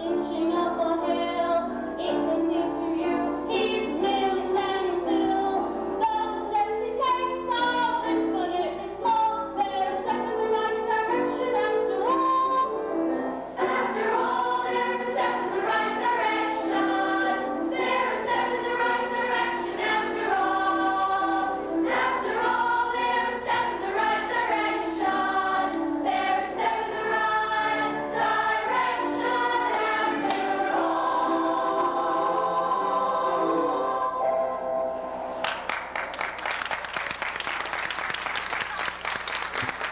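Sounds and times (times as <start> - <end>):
chorus singing: 0.0 - 35.4.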